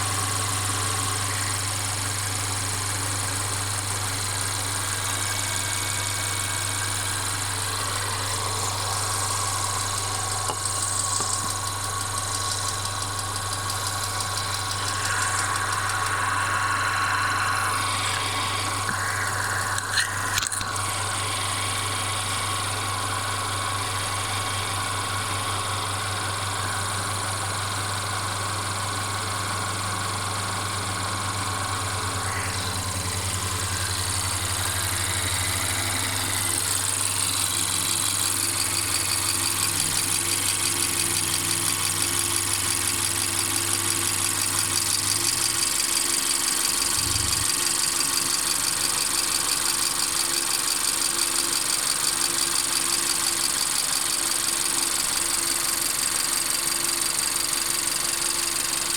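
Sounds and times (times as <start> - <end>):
car engine running: 0.0 - 29.5, 30.1 - 49.4
engine rattling: 0.0 - 30.8, 31.6 - 58.9.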